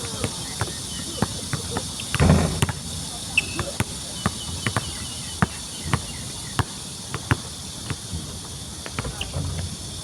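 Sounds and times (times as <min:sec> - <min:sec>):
basketball bouncing on court: 0:00.0 - 0:09.3
insects chirring: 0:00.0 - 0:10.0.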